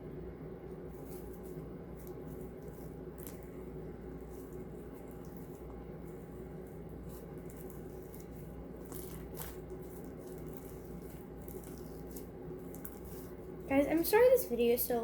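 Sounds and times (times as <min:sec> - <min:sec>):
low hum: 0:00.0 - 0:15.0
slime squelching: 0:00.8 - 0:15.0
slime crackling: 0:00.9 - 0:15.0.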